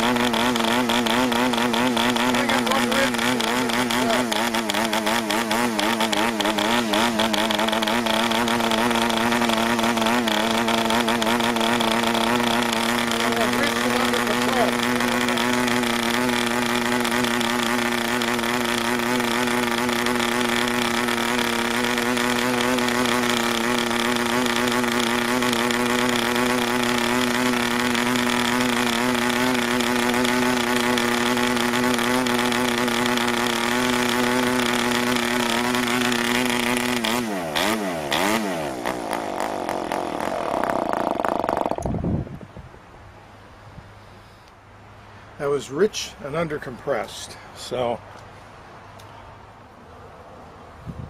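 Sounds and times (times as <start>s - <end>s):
model diesel engine running: 0.0s - 42.0s.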